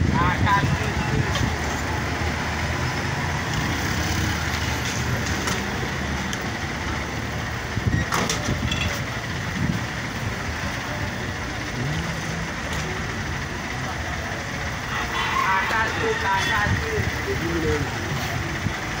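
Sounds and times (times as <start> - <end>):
passing vehicle engines rumbling: 0.0 - 19.0.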